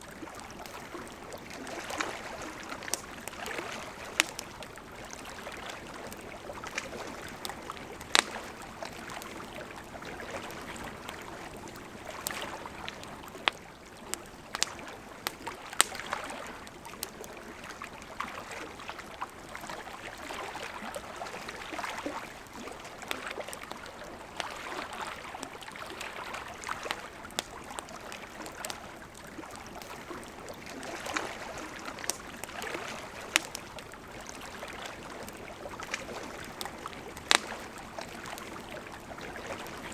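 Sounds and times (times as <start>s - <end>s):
river flowing: 0.0s - 39.9s
campfire crackling and popping: 0.1s - 39.9s.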